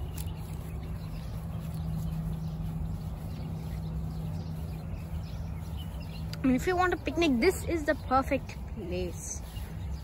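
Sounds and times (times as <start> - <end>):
faint bird chirps: 0.0 - 10.0
steady low hum: 0.0 - 10.0.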